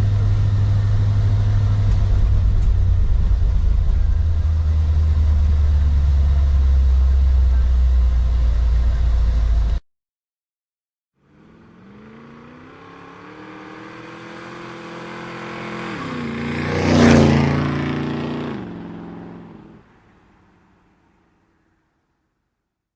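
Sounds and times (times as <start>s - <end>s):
car driving past: 0.0s - 9.8s, 11.2s - 21.8s.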